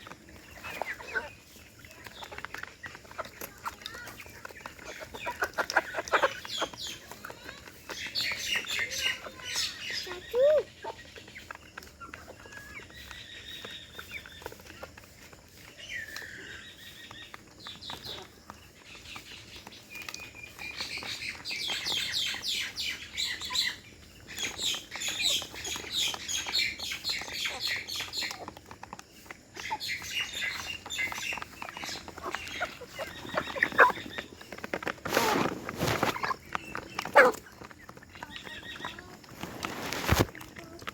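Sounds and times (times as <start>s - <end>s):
young chickens peeping: 0.0s - 40.9s.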